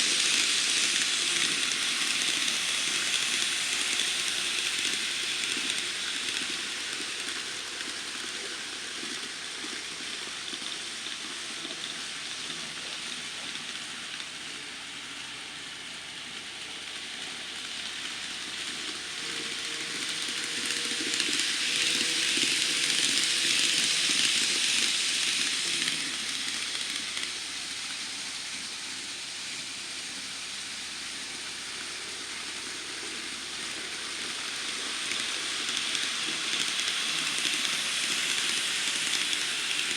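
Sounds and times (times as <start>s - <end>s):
model train rolling on track: 0.0s - 39.9s.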